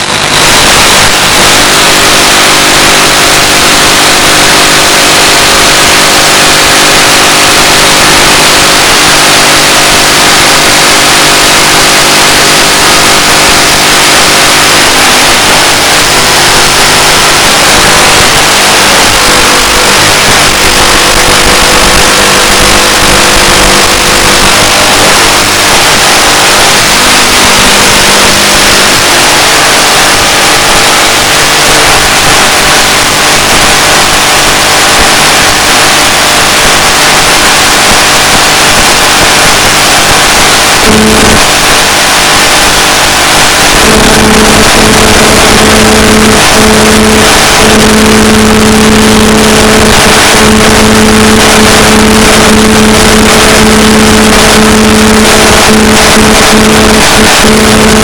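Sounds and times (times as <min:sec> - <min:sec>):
loud steady hiss: 0:00.0 - 0:58.0.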